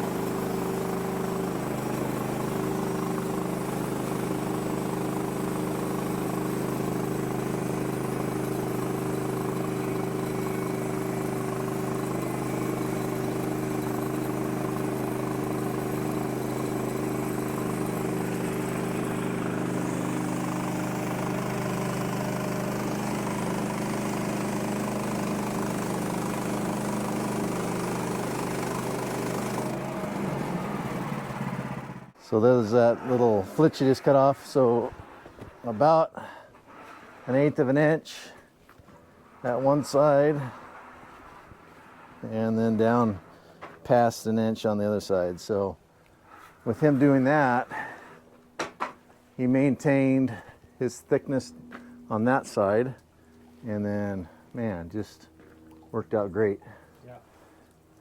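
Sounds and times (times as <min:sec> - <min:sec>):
bandsaw sawmill engine under load: 0:00.0 - 0:57.5.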